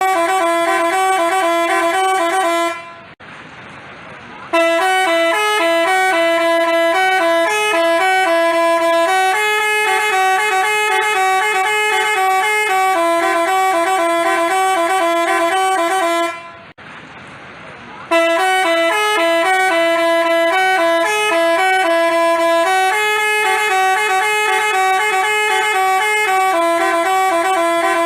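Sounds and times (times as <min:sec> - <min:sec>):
bus horn playing a tune: 0:00.0 - 0:03.2, 0:04.5 - 0:16.8, 0:18.1 - 0:28.0.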